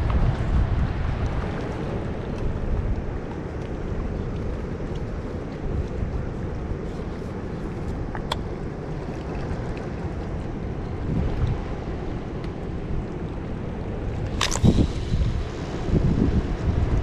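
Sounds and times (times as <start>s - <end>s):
water rushing from spillway: 0.0s - 17.0s
wind on microphone: 0.0s - 17.0s.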